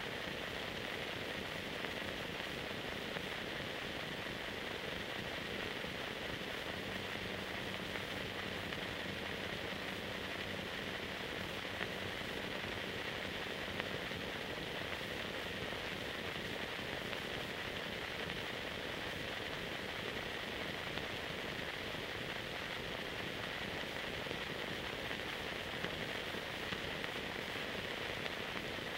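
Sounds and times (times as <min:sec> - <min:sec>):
film transfer hiss: 0:00.0 - 0:28.9.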